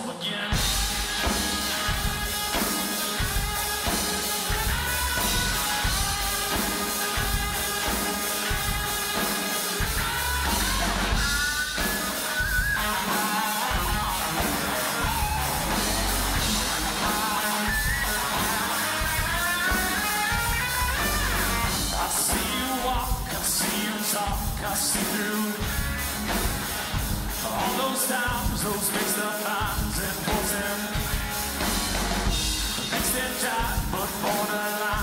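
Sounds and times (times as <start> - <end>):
electric bass: 0.5 - 23.5, 25.6 - 28.8, 29.6 - 34.1
steady drum beat: 0.5 - 35.0.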